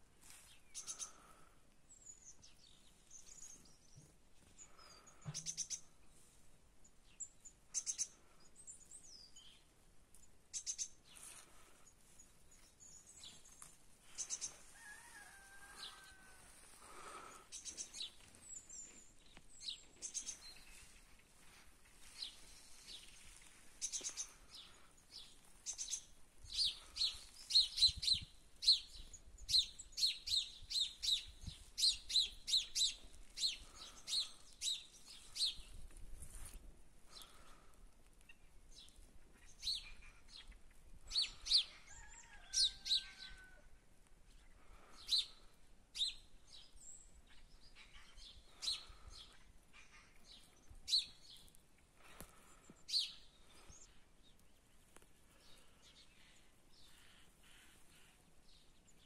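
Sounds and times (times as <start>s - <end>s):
small birds chirping: 0.2s - 43.6s, 44.2s - 59.0s.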